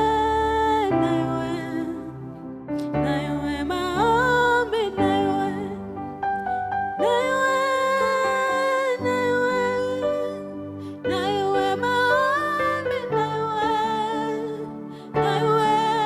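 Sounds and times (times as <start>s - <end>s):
soft instrumental accompaniment: 0.0s - 16.0s.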